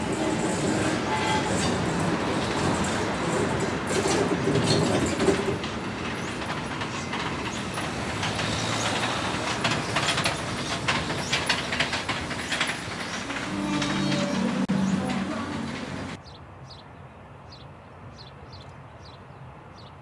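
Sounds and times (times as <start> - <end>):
train wheels clattering on rails: 0.0 - 16.2.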